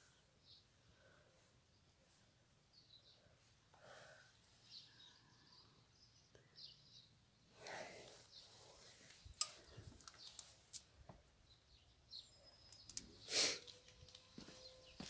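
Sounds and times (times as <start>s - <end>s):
faint bird chirps: 0.0s - 10.6s, 11.4s - 15.0s.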